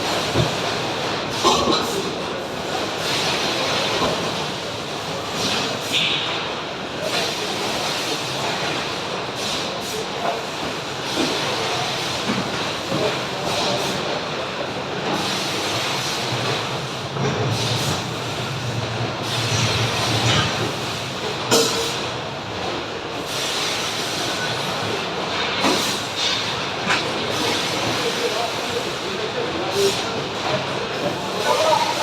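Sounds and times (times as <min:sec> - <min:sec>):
factory machinery clattering: 0:00.0 - 0:32.0.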